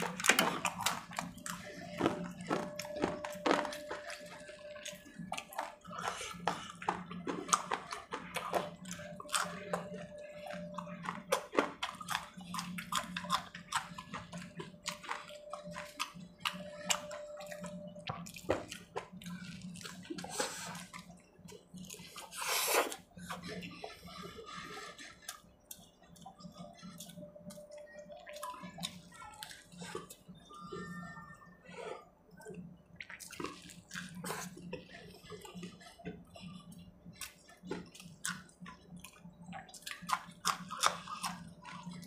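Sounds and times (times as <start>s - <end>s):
chewing and crunching food: 0.0s - 42.0s
faint steady hum: 0.0s - 42.0s.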